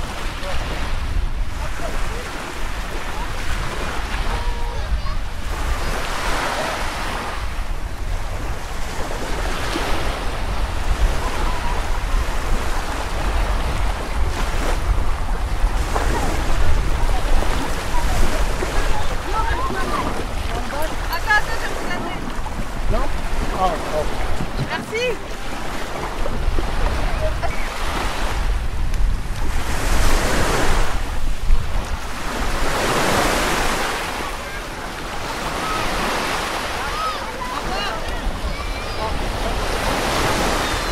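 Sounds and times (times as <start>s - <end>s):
faint voices: 0.0s - 7.5s, 10.3s - 28.1s, 33.0s - 40.9s
small waves breaking on shore: 0.0s - 40.9s
wind rumbling on microphone: 0.0s - 40.9s.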